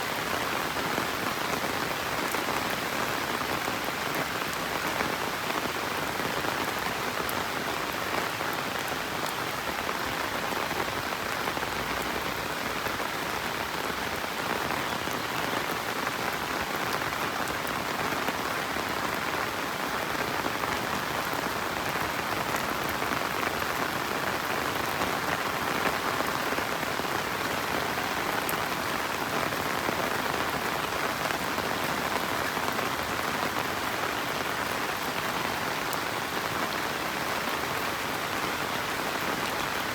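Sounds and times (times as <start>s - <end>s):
steady rain falling on foliage: 0.0s - 39.9s.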